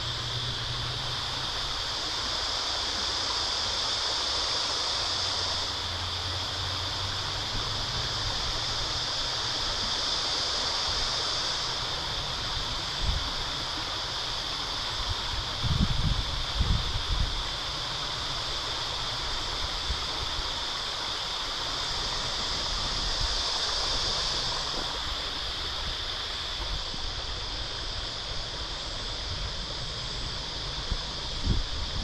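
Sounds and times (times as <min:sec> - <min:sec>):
even hiss: 0:00.0 - 0:32.0
high steady drone: 0:00.0 - 0:32.0
wind rumble on microphone: 0:05.0 - 0:32.0.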